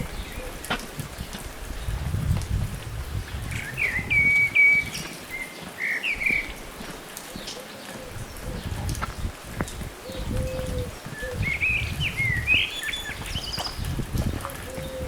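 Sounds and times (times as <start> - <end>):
low wind rumble: 0.0 - 5.4, 7.4 - 15.0.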